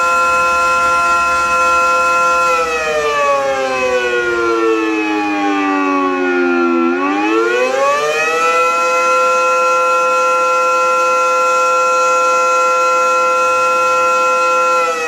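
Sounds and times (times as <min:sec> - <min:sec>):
air raid siren wailing: 0:00.0 - 0:15.0.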